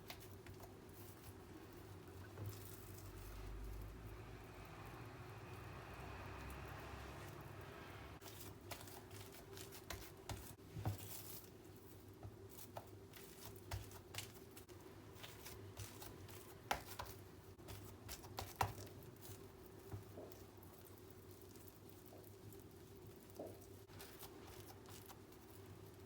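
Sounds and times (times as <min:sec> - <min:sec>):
rustling: 0:00.0 - 0:26.0.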